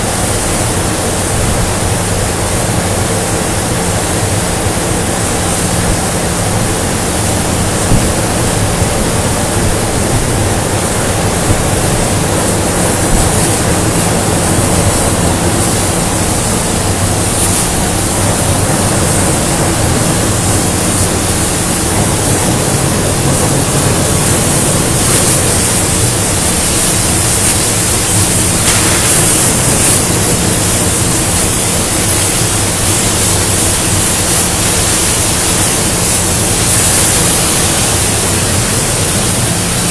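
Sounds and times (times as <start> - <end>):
machinery hiss: 0.0 - 39.9
machinery low hum: 0.0 - 39.9.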